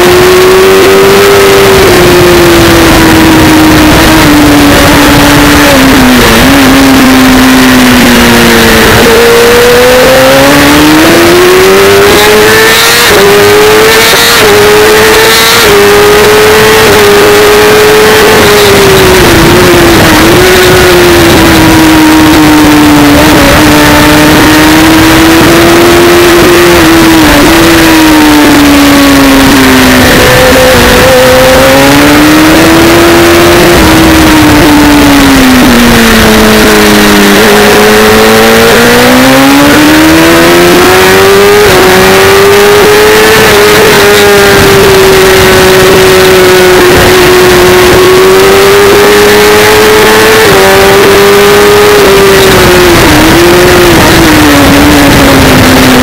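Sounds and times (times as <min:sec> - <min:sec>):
motorcycle engine revving high: 0:00.0 - 0:56.0
rushing wind: 0:00.0 - 0:56.0.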